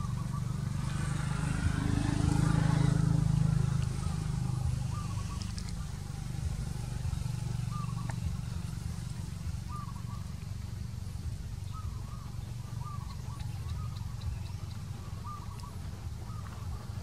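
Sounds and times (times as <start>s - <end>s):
high chirping calls: 0.0s - 17.0s
steady low rumble: 0.0s - 17.0s.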